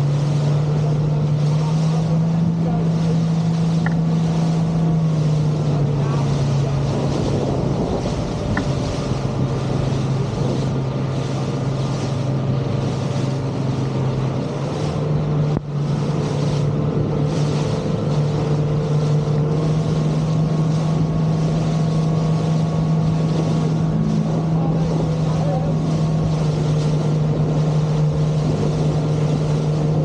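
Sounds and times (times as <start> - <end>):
outboard motor droning: 0.0 - 30.0
rushing water wash: 0.0 - 30.0
wind on microphone: 0.0 - 30.0.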